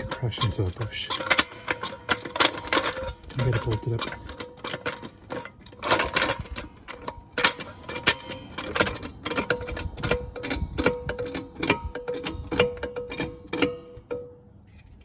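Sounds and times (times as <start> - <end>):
metallic tool clicks and knocks: 0.0 - 14.4.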